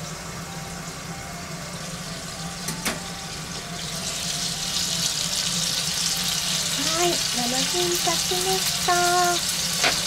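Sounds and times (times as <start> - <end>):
patties sizzling in frying pan: 0.0 - 10.0.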